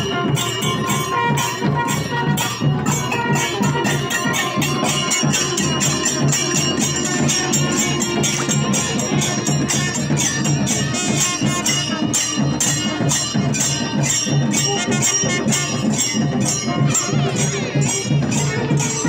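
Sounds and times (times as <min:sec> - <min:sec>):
hand cymbals clashing: 0:00.0 - 0:19.0
low rhythmic drum beat: 0:00.0 - 0:19.0.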